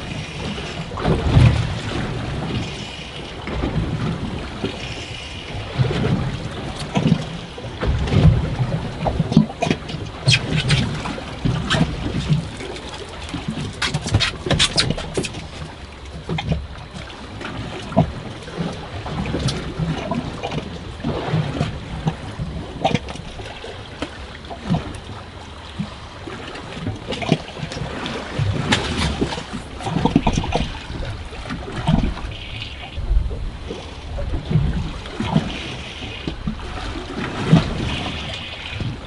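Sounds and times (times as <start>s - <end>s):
knocks and clatter on boat: 0.0s - 39.0s
water slapping boat hull: 0.0s - 39.0s.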